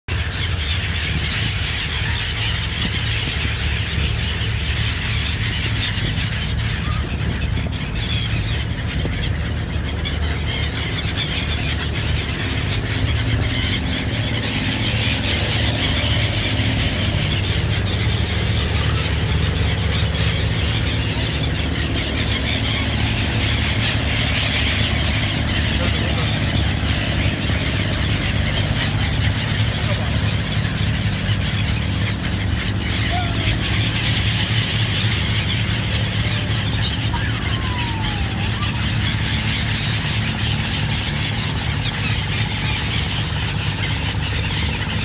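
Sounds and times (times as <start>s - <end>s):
boat engines droning: 0.0s - 45.0s
flock of birds shrill cries: 0.1s - 45.0s.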